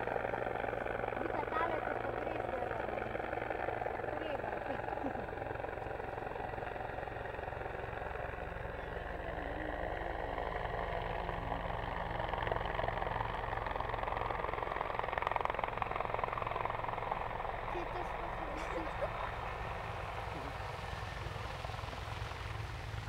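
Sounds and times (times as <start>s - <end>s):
helicopter flying past: 0.0s - 23.0s.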